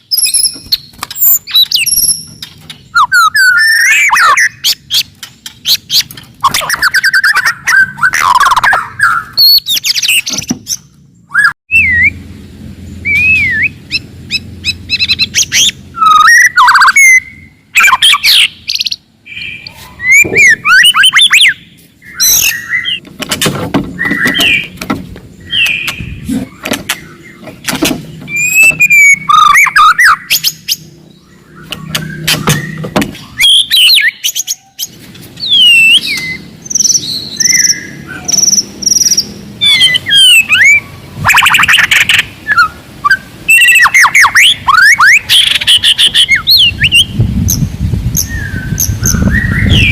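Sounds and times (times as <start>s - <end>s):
songbird singing whistles and trills: 0.0s - 12.2s, 13.0s - 23.0s, 28.3s - 49.9s.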